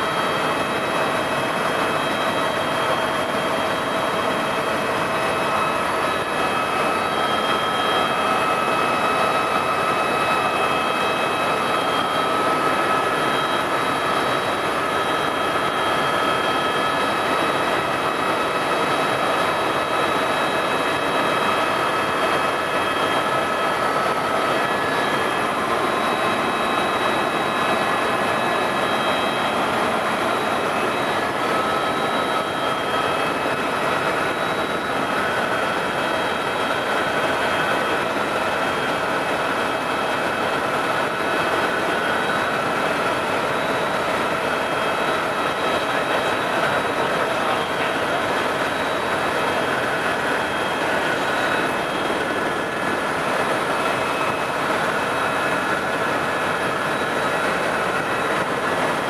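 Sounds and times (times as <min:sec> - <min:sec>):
helicopter engine and rotor noise: 0:00.0 - 0:59.0.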